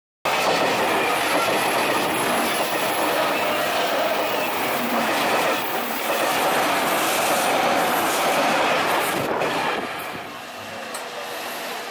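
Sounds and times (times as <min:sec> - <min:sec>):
distant train: 0:00.3 - 0:11.9
express train passing at speed: 0:00.3 - 0:11.9.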